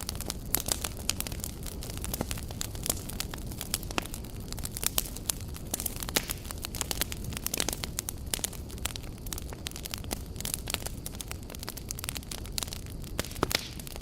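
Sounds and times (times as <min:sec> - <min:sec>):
campfire crackling and popping: 0:00.0 - 0:14.0
low rumble of flame: 0:00.0 - 0:14.0.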